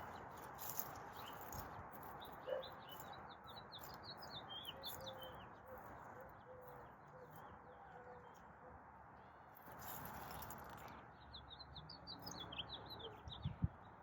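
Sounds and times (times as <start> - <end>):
small birds chirping: 0.0 - 8.6, 9.2 - 14.0.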